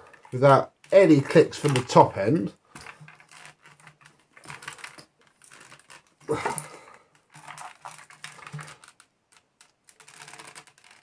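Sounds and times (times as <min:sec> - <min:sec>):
plastic casing creaking and clicking: 0:00.0 - 0:11.0.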